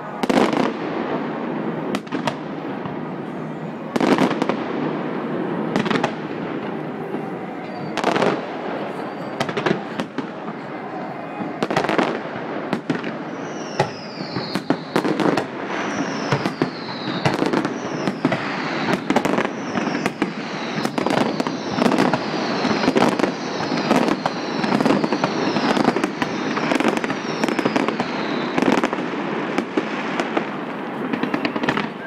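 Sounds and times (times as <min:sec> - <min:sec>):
descending firework whistles: 0:00.0 - 0:32.0
fireworks bangs: 0:00.0 - 0:32.0
fireworks crackle: 0:00.0 - 0:32.0.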